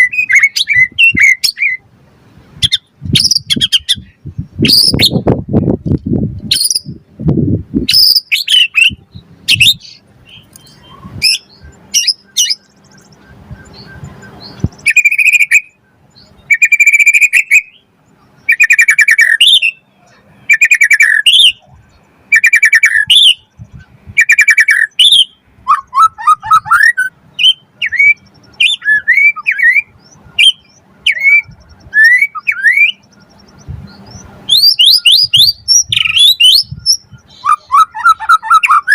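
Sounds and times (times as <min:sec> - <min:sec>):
bird singing: 0:00.0 - 0:01.9, 0:02.6 - 0:05.3, 0:06.5 - 0:07.0, 0:07.8 - 0:38.9.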